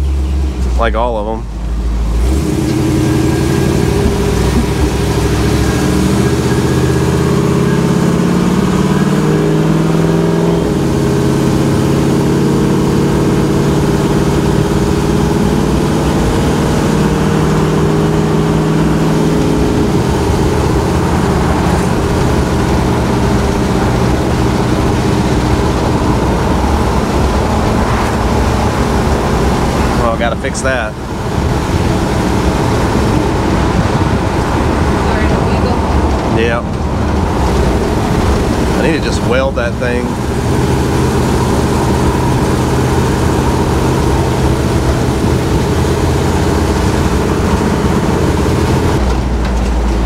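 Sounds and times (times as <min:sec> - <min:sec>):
truck engine from inside cab: 0:00.0 - 0:50.0.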